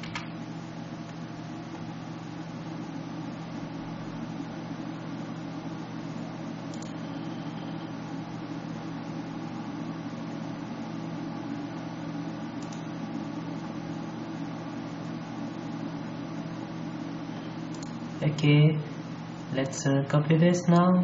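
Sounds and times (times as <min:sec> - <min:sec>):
steady hum and hiss: 0:00.0 - 0:21.0.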